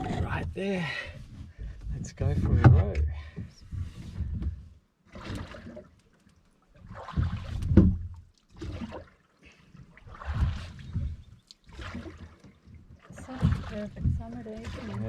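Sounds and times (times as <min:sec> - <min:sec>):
oars pulling through water: 0:00.0 - 0:15.0.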